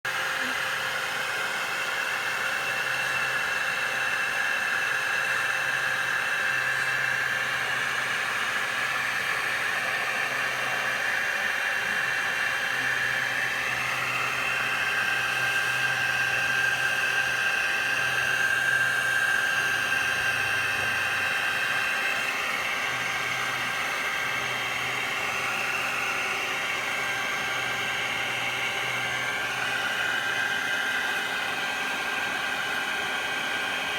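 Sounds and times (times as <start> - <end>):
vacuum motor whining: 0.1 - 33.9.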